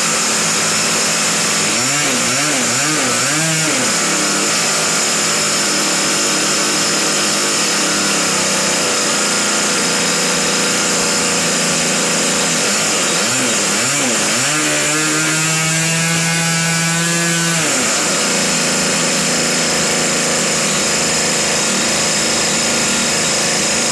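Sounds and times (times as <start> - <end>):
model airplane engine running: 0.0 - 14.6, 15.4 - 23.9.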